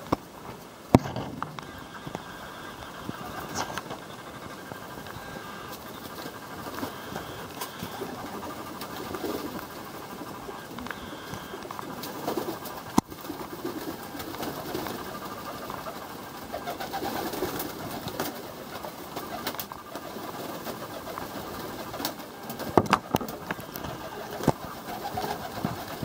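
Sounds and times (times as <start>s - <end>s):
pigeons cooing: 1.0s - 26.0s.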